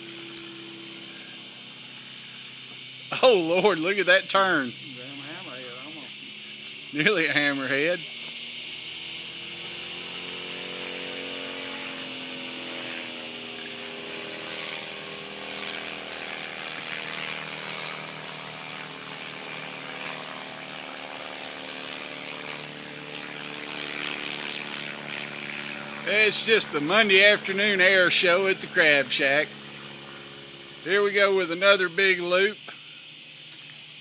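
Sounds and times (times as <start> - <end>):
propeller plane engine droning: 0.0 - 34.0.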